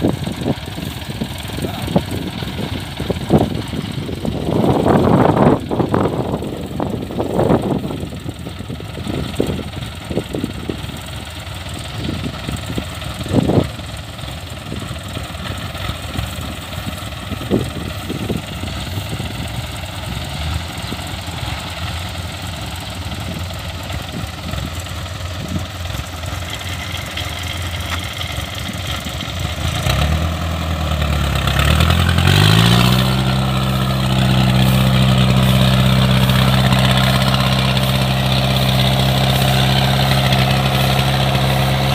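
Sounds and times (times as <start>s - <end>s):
engine knocks: 0.0s - 41.9s
harvester diesel engine running: 0.0s - 41.9s.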